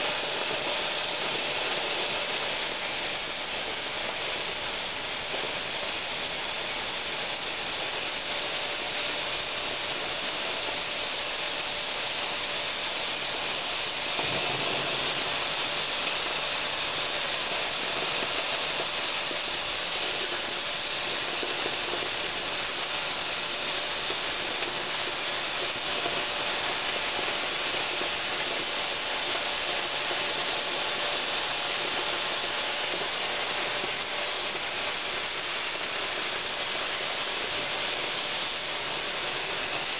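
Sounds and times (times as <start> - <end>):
cutting torch hissing: 0.0 - 39.9.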